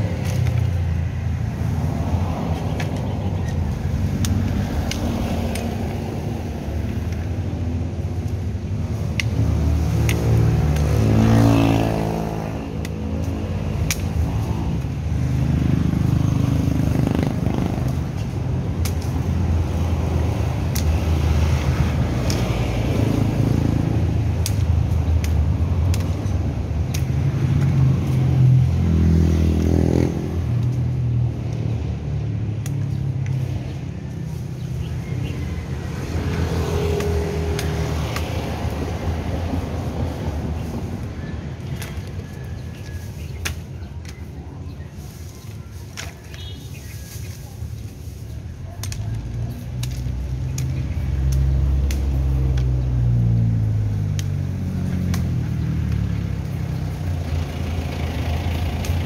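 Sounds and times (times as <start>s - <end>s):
cars and motorcycles passing: 0.0s - 59.0s.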